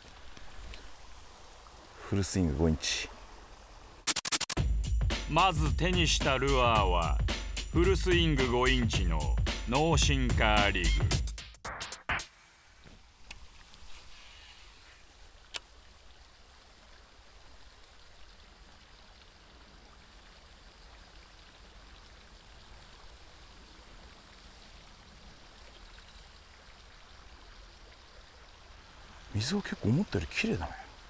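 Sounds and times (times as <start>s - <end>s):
faint outdoor hiss: 0.0s - 4.1s, 4.9s - 11.1s, 12.3s - 31.0s.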